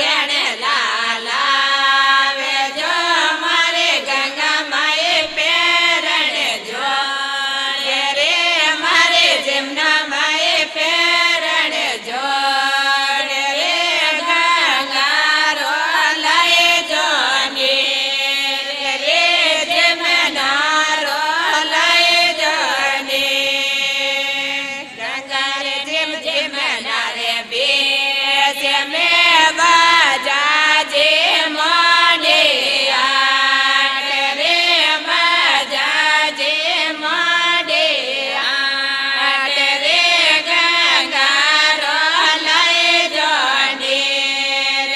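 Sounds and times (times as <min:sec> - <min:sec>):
women singing devotional folk song: 0:00.0 - 0:44.9.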